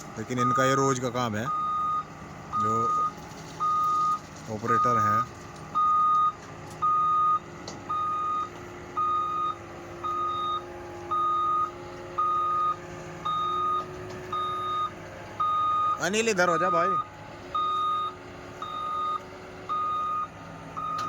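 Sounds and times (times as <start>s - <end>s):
loader engine running: 0.0s - 21.0s
reversing alarm beeping: 0.2s - 5.2s, 5.8s - 21.0s.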